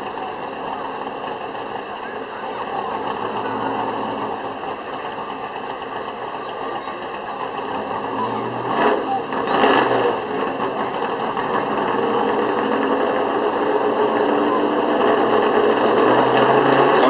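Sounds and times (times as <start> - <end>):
distant truck engine buzzing: 0.0 - 17.0.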